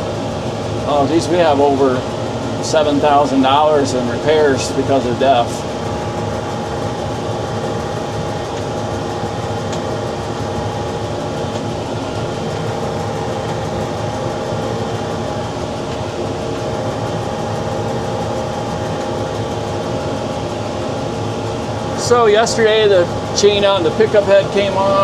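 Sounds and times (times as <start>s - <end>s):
tractor engine drone in cab: 0.0s - 25.0s.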